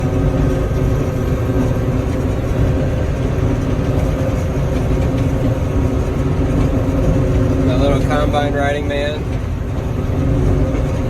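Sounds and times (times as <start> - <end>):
combine engine drone: 0.0 - 11.0.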